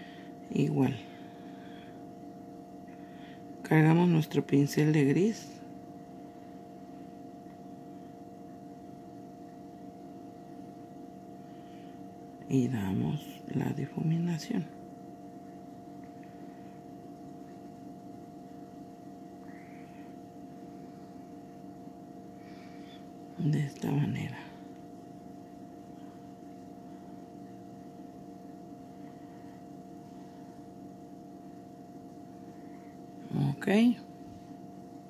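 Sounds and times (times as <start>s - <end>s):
low background hum: 0.0s - 35.0s
thin constant tone: 0.0s - 35.0s.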